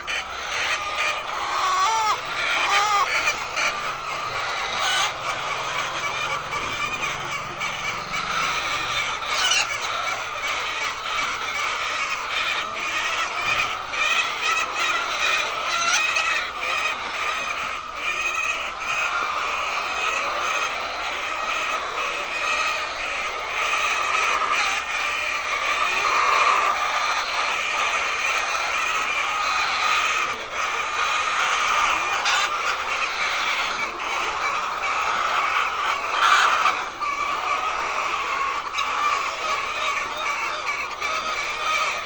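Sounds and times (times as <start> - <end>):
hens clucking: 0.0 - 42.0.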